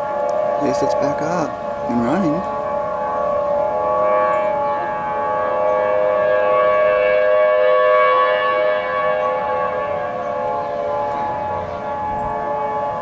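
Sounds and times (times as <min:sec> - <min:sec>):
two-note tornado siren: 0:00.0 - 0:13.0.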